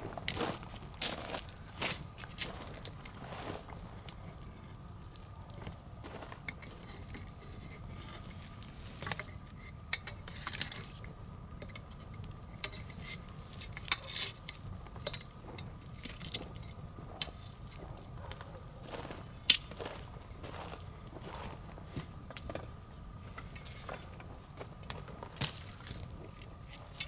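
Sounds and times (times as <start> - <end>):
low steady rumble: 0.0 - 27.0
wood bonfire crackling: 0.0 - 27.0.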